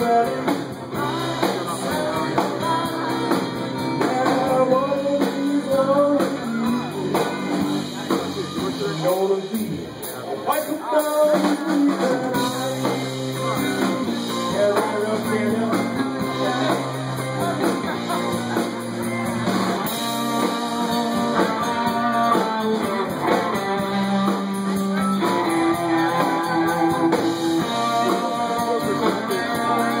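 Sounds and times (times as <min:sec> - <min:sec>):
guitars strumming: 0:00.0 - 0:09.8, 0:10.7 - 0:30.0
live country band playing: 0:00.0 - 0:30.0.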